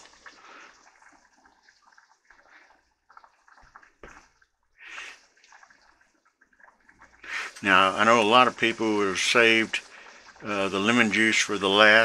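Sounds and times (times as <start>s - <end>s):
pot bubbling with small pops: 0.0s - 12.0s.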